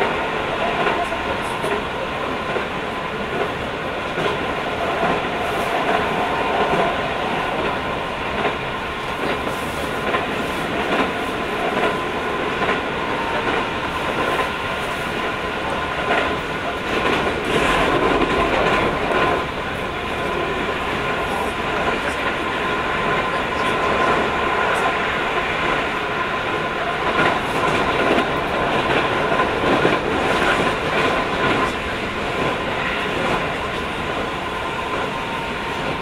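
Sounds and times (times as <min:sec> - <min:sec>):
train interior rumble and hum: 0:00.0 - 0:36.0.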